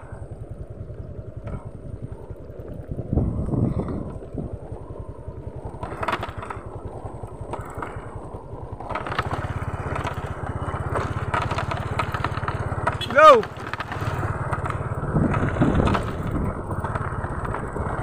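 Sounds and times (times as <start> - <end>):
gravel crunching and rattling: 0.0 - 18.0
motorcycle engine running: 0.0 - 18.0.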